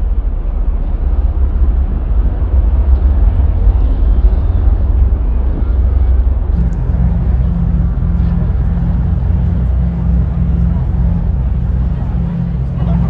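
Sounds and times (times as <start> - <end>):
deep rumble with noisy wash: 0.0 - 13.0.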